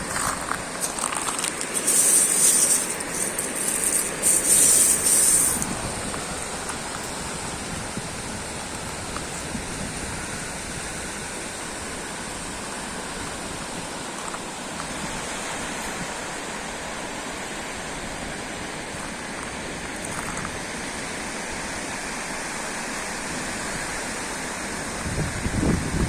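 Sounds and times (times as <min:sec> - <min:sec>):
rain hissing: 0:00.0 - 0:25.1
sea waves washing: 0:00.0 - 0:25.1.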